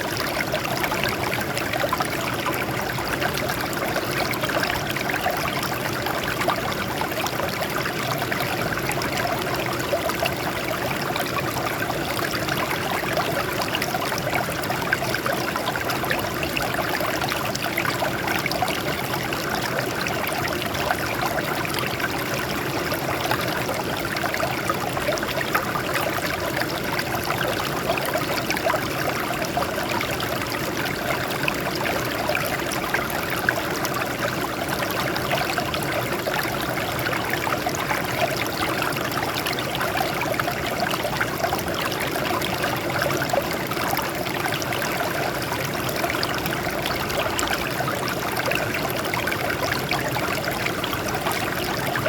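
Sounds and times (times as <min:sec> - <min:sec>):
water trickling over rocks: 0:00.0 - 0:52.0.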